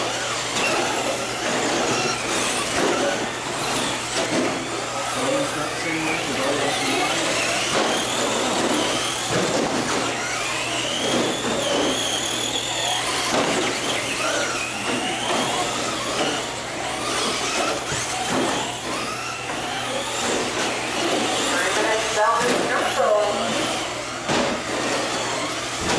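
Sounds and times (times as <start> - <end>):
electric motors whining: 0.0 - 25.9.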